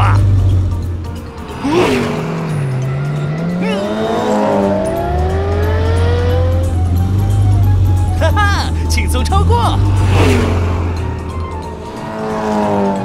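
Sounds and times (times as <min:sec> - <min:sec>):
background music with bass: 0:00.0 - 0:13.0
cartoon race car engines rising: 0:01.2 - 0:13.0.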